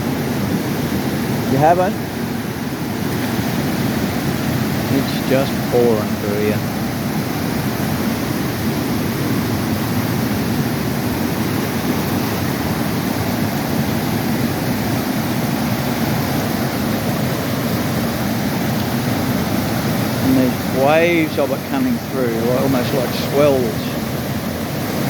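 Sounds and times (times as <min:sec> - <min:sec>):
rushing creek water: 0:00.0 - 0:25.0.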